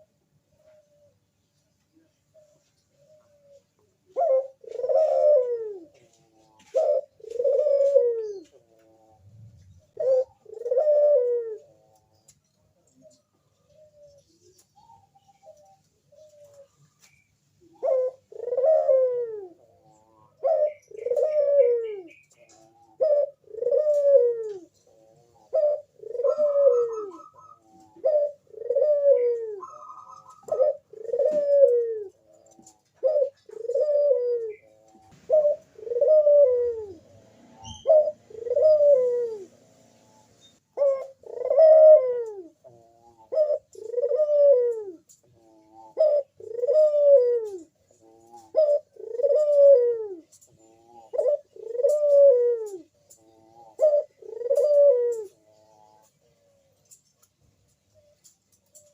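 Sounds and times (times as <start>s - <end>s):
dove cooing: 0.0s - 1.3s, 1.9s - 58.9s.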